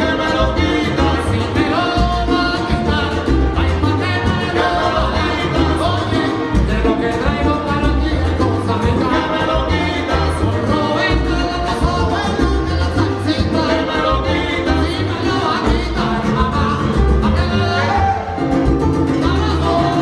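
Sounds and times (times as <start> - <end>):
people singing: 0.0 - 20.0
salsa band playing: 0.0 - 20.0.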